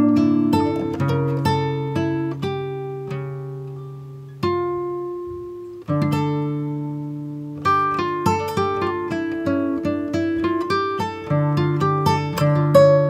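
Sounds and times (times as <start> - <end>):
acoustic guitar plucking: 0.0 - 13.0.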